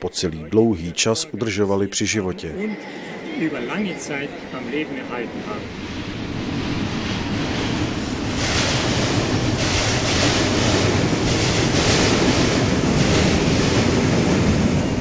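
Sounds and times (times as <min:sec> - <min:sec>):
train wheels on rails: 0:02.7 - 0:15.0.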